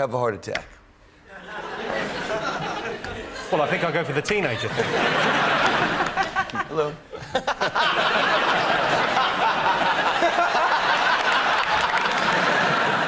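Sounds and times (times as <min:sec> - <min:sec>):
audience laughter: 0:01.3 - 0:13.0.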